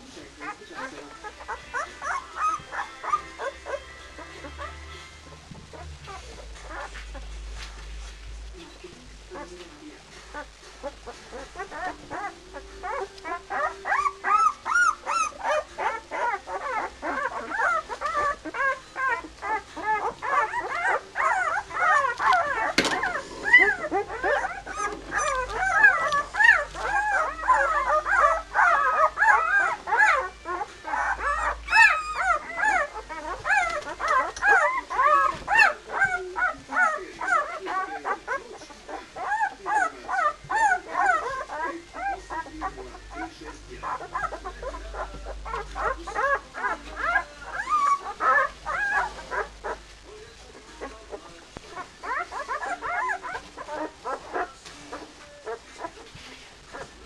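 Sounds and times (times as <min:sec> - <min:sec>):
puppies whining and squealing: 0:00.1 - 0:08.2, 0:10.3 - 0:57.0.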